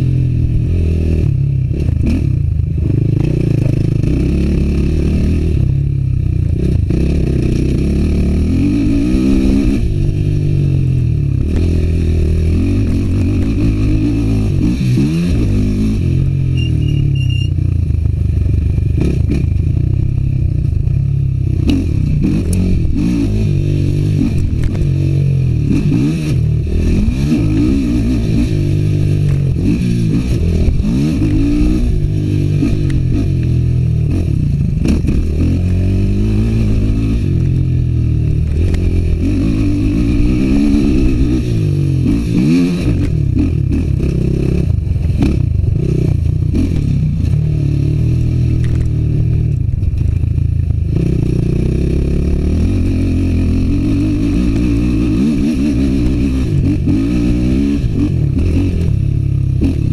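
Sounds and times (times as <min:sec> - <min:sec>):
quad engine revving: 0:00.0 - 0:05.7, 0:06.5 - 0:17.5, 0:21.4 - 0:49.6, 0:50.8 - 0:59.9.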